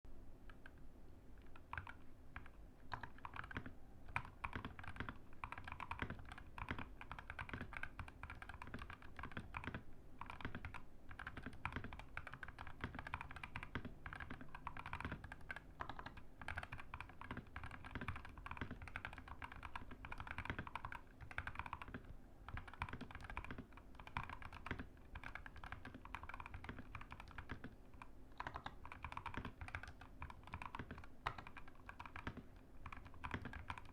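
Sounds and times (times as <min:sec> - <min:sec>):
mechanical keyboard typing: 0:01.4 - 0:33.9.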